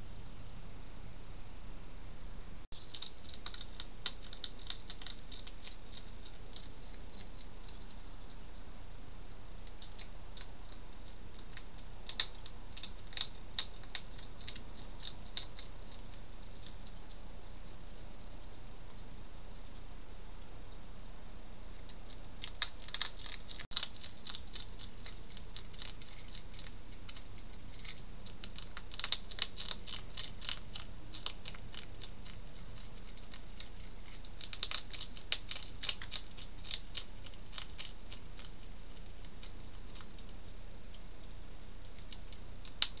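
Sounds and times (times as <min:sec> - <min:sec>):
hedgehog chewing and crunching: 0:02.7 - 0:20.4, 0:21.6 - 0:43.0.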